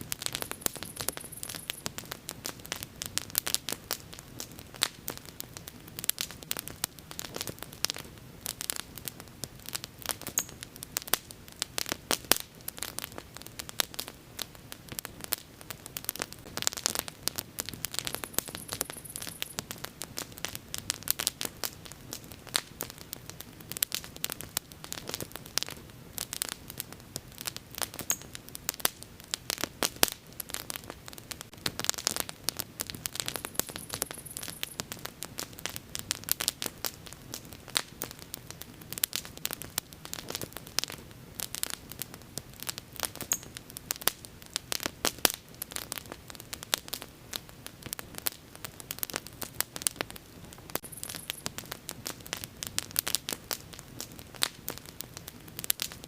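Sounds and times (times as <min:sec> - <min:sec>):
bonfire crackling: 0:00.0 - 0:56.0
low hiss of burning: 0:00.0 - 0:56.0.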